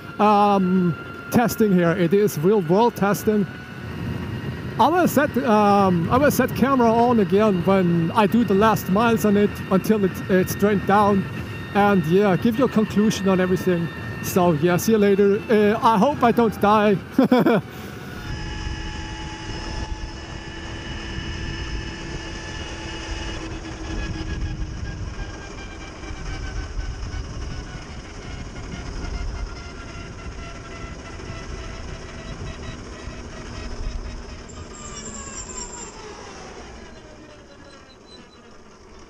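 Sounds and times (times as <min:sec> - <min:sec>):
electric motor whine: 0:00.0 - 0:39.0
wind: 0:00.0 - 0:39.0.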